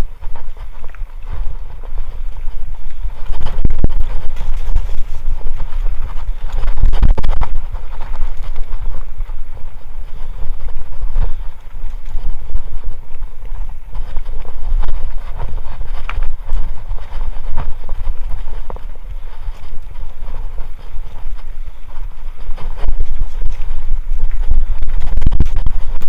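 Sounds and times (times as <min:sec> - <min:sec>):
bike clattering over rough trail: 0:00.0 - 0:26.0
low rumble of wind: 0:00.0 - 0:26.0.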